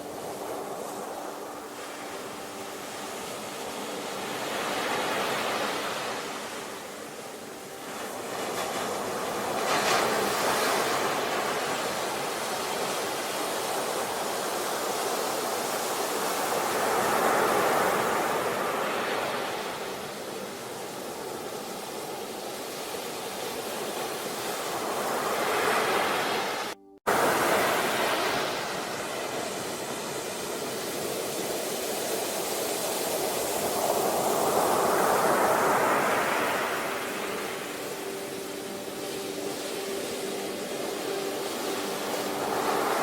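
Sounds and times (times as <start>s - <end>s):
sea waves breaking on shore: 0.0s - 43.0s.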